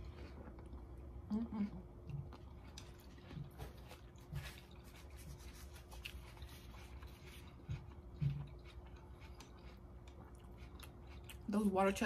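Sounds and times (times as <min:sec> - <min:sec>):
chewing crunchy food: 0:00.0 - 0:12.0.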